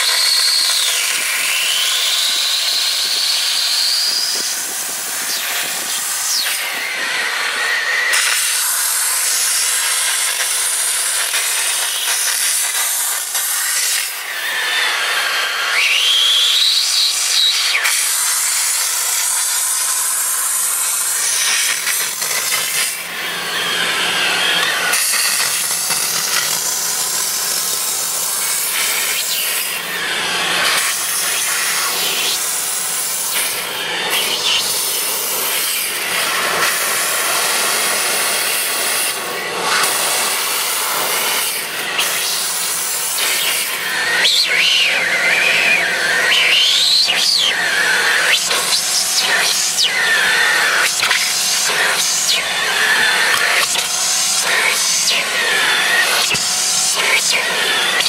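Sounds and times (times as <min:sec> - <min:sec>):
steam cleaner hissing: 0:00.0 - 0:58.0.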